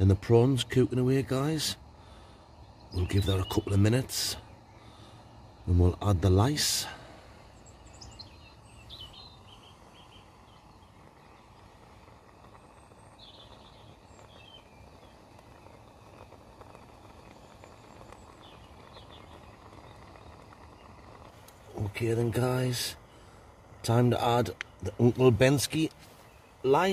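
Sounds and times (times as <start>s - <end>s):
camping stove hissing: 0.0s - 26.9s.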